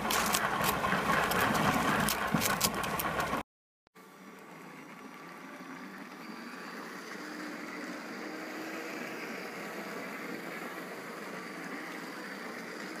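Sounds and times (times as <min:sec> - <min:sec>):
toy train motor whining: 0:00.0 - 0:03.4, 0:05.2 - 0:13.0
toy train wheels rolling on track: 0:00.0 - 0:03.4, 0:05.1 - 0:13.0.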